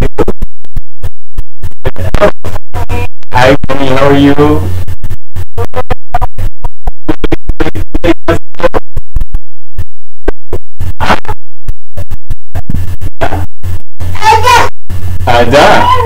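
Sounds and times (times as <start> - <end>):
glitching stuttering voice: 0.0 - 0.6, 1.6 - 9.3, 10.3 - 16.0.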